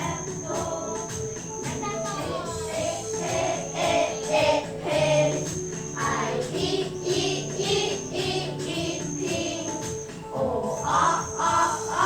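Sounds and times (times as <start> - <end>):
voices singing over backing track: 0.0 - 12.0.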